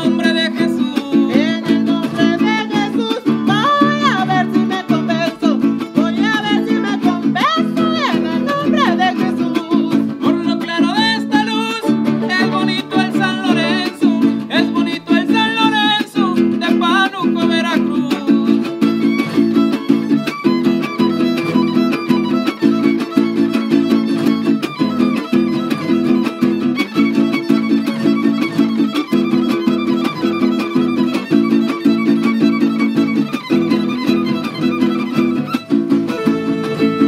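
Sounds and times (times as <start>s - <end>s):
strummed guitars: 0.0s - 37.0s
violin melody: 0.0s - 37.0s.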